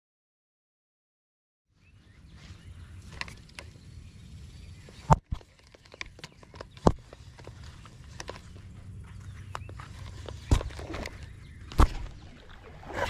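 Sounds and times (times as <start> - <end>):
footsteps on dry ground: 1.8 - 12.2.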